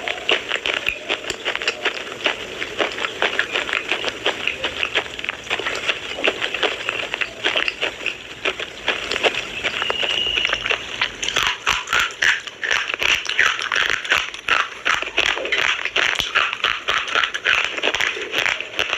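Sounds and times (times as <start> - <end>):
slate pencil crunching: 0.0 - 18.9.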